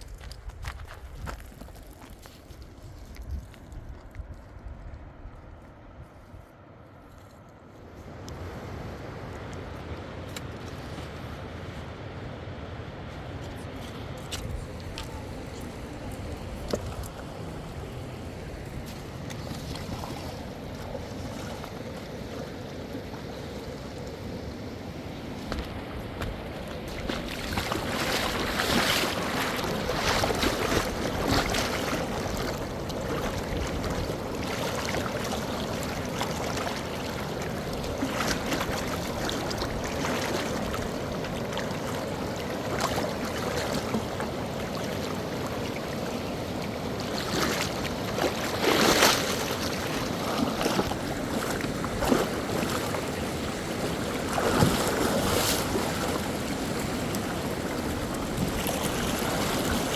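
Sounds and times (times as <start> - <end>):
rushing river water: 8.0 - 59.9.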